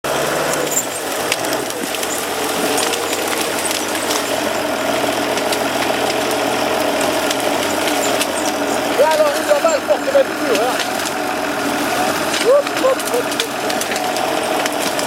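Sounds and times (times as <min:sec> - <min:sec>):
diesel engine running: 0:00.0 - 0:15.0
short clicks and cracks: 0:00.5 - 0:11.2, 0:12.1 - 0:15.0.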